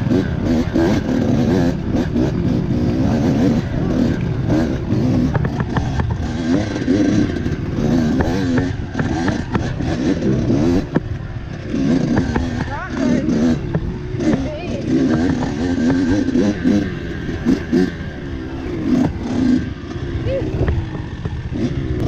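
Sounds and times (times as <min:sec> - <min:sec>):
knocks and clatter: 0:00.0 - 0:18.0
dirt bike engine revving: 0:00.0 - 0:22.0.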